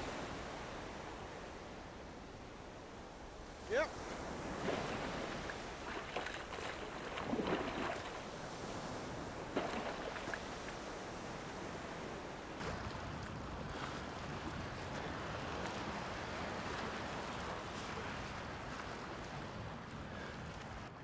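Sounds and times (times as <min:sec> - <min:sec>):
sea waves lapping: 0:00.0 - 0:21.0
wind on microphone: 0:03.0 - 0:21.0.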